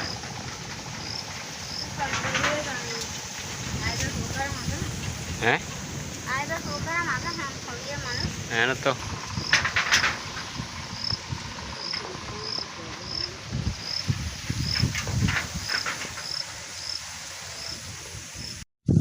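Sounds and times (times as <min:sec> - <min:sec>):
rustling: 0:00.0 - 0:17.9
cricket chirping: 0:00.0 - 0:18.6.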